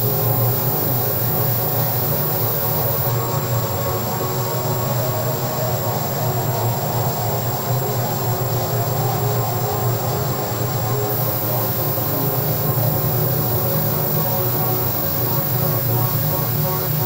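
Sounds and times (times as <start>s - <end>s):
electronic noise drone: 0.0s - 8.5s, 10.0s - 17.0s.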